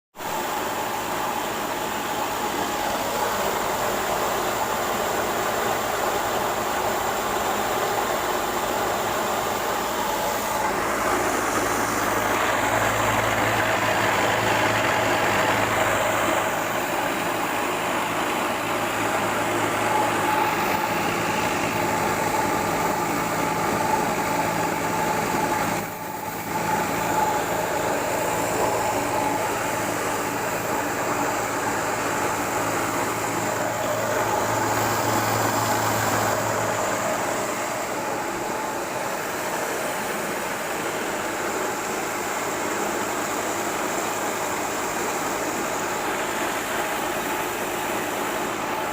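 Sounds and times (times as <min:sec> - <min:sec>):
rice polisher humming with whine: 0:00.2 - 0:48.9.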